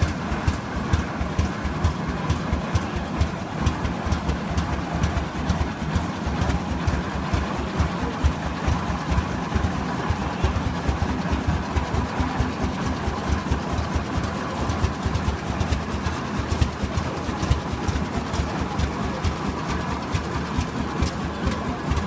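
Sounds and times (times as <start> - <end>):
tractor engine exhaust beats: 0.0 - 22.0.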